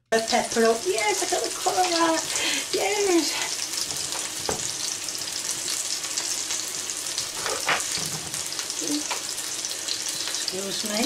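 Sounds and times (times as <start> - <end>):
chicken sizzling in a pan: 0.1 - 11.0.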